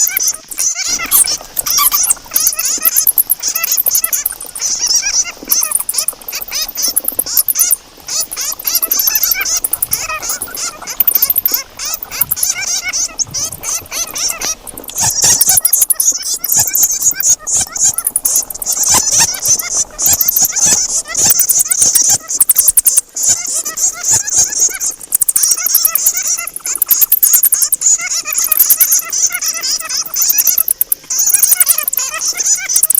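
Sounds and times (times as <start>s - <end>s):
bats squeaking and chattering: 0.0s - 32.9s
rapid clicking: 0.0s - 32.9s.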